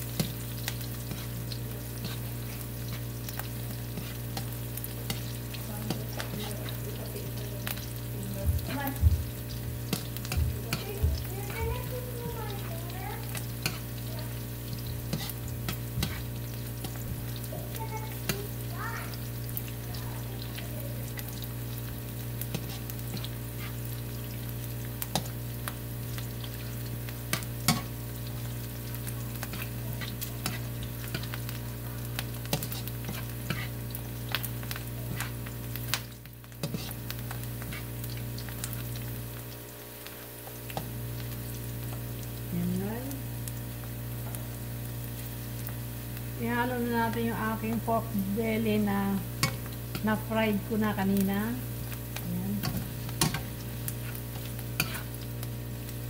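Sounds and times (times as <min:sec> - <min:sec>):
spatula clicking and scraping pan: 0:00.0 - 0:19.7, 0:20.4 - 0:42.1, 0:49.3 - 0:55.3
onions sizzling in oil: 0:00.0 - 0:56.0
steady low hum: 0:00.0 - 0:56.0.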